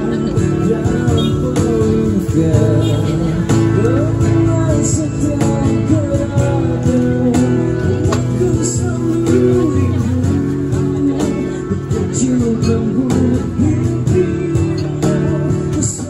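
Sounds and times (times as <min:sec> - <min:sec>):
acoustic guitar strumming: 0:00.0 - 0:16.0
cajon tapping: 0:00.0 - 0:16.0
man singing: 0:00.0 - 0:16.0.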